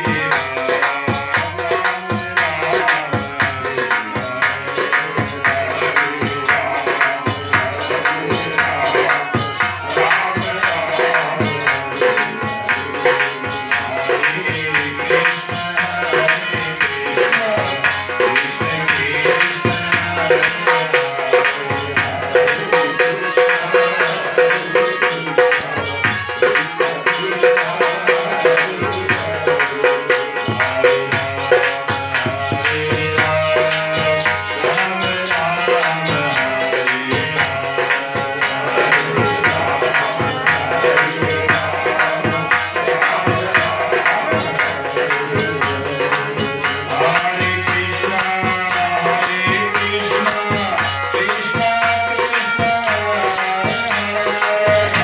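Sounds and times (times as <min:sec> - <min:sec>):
hand drum: 0:00.0 - 0:55.0
harmonium held notes: 0:00.0 - 0:55.0.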